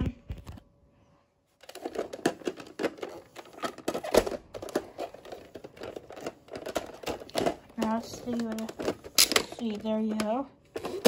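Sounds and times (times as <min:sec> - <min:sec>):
plastic toy parts clicking and rattling: 0:01.6 - 0:11.0.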